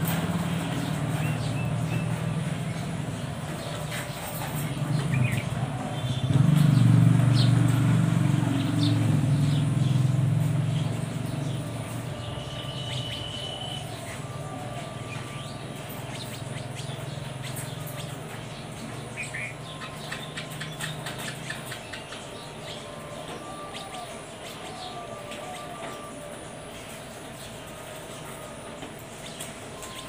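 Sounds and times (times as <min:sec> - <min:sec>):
vehicle motor rumble: 0:00.0 - 0:25.4
sparrows chirping: 0:00.0 - 0:30.0.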